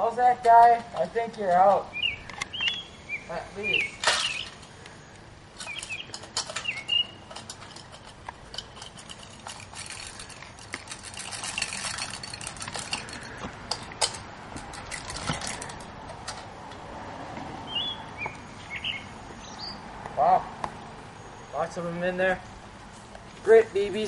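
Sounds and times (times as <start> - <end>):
birds chirping: 1.0 - 14.2, 17.6 - 24.0.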